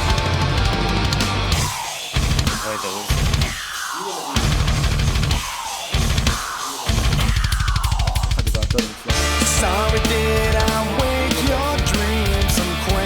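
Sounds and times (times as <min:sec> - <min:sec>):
rock music with heavy drums: 0:00.0 - 0:13.0.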